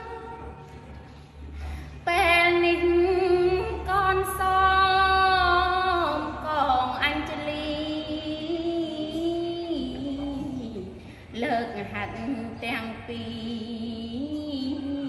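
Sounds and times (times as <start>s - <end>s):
woman chanting unaccompanied: 2.1s - 15.0s.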